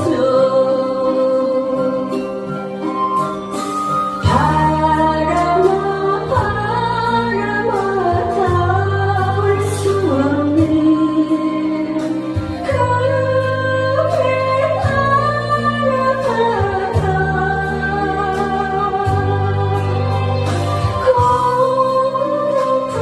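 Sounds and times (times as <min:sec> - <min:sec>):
band accompaniment: 0:00.0 - 0:23.0
woman singing into a microphone: 0:00.0 - 0:23.0.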